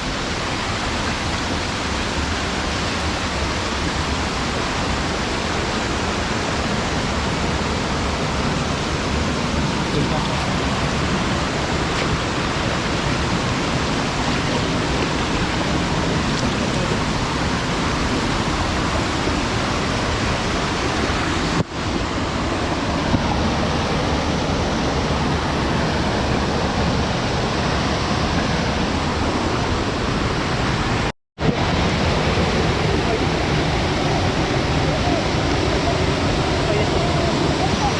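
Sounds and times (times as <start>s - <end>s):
running water rushing: 0.0s - 37.9s.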